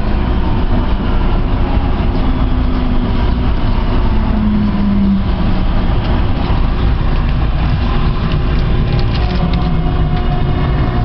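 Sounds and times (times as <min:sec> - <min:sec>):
train rumbling and rolling: 0:00.0 - 0:11.0.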